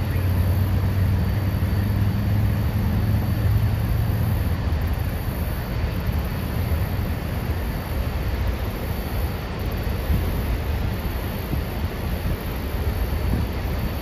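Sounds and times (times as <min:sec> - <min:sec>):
rushing river rapids: 0:00.0 - 0:14.0
waterfall roar: 0:00.0 - 0:14.0.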